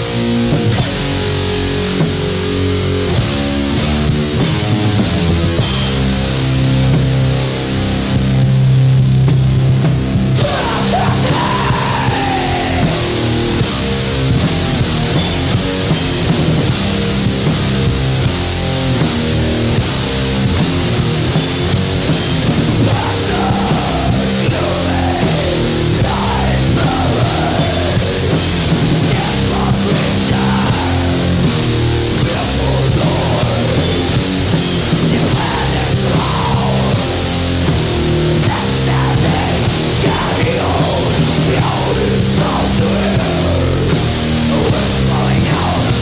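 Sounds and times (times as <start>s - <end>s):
bass guitar: 0.0s - 46.0s
distorted electric guitar: 0.0s - 46.0s.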